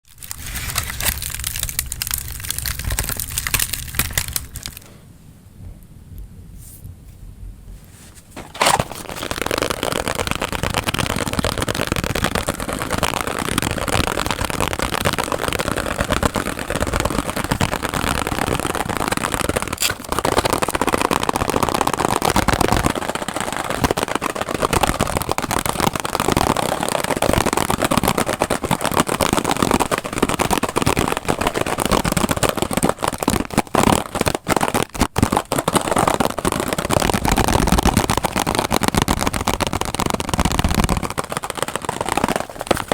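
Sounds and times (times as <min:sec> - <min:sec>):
fast tapping rattle: 0:08.4 - 0:42.9.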